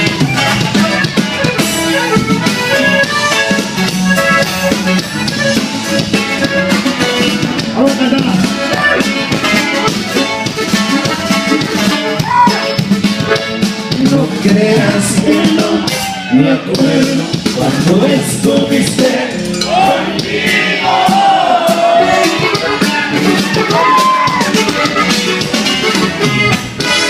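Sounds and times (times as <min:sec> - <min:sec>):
accordion melody: 0:00.0 - 0:27.0
band playing instrumental: 0:00.0 - 0:27.0.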